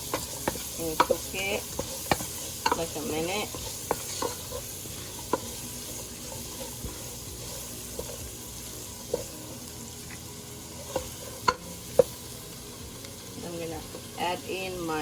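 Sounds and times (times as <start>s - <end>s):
vegetables sizzling in butter: 0.0s - 15.0s.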